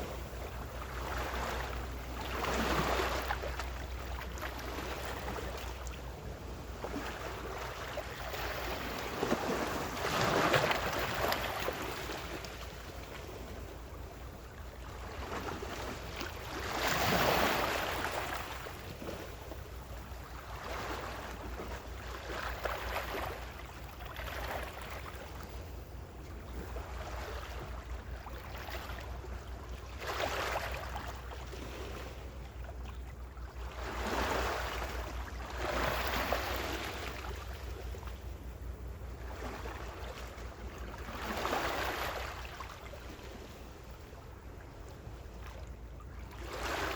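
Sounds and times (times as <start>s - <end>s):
ocean waves breaking: 0.0s - 25.7s, 26.5s - 38.4s, 39.2s - 44.2s
low steady rumble: 0.0s - 46.9s.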